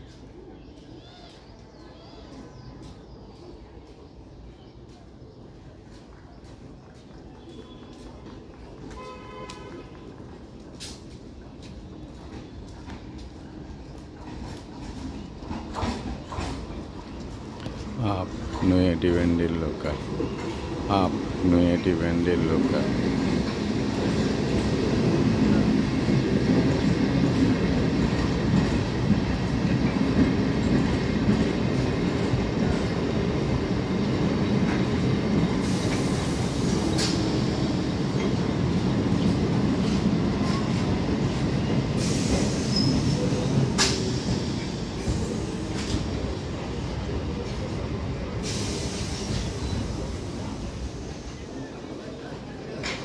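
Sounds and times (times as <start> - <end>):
train wheels rumbling on rails: 4.8 - 53.0.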